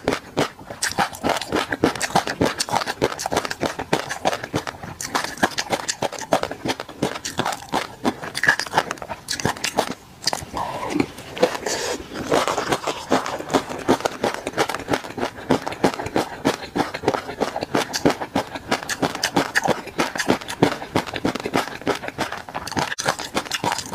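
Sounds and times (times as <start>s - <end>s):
wet crackly chewing: 0.0s - 23.9s.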